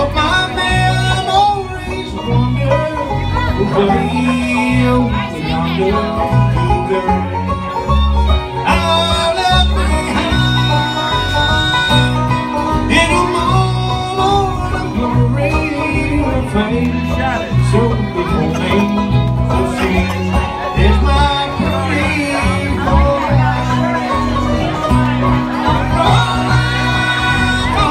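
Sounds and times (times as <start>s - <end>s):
fiddle: 0.0s - 27.9s
plucked guitar: 0.0s - 27.9s
repeating bass line: 0.0s - 27.9s.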